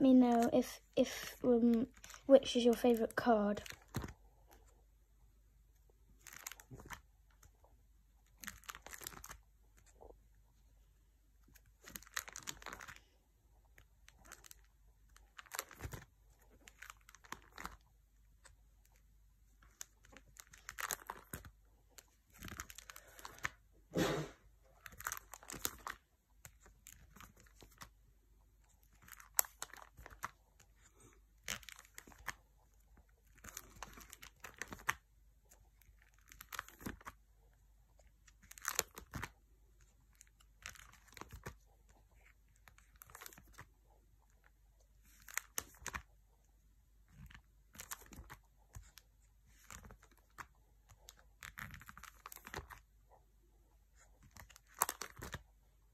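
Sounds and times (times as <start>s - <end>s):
plastic pages crinkling: 0.0s - 4.8s, 5.8s - 46.4s, 47.0s - 53.2s, 53.9s - 55.6s.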